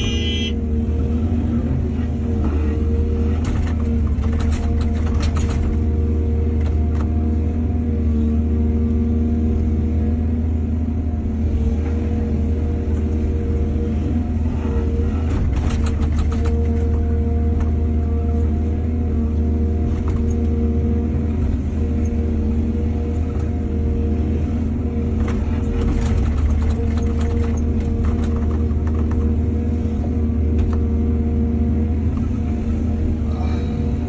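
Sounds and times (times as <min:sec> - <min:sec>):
excavator engine droning: 0:00.0 - 0:34.0.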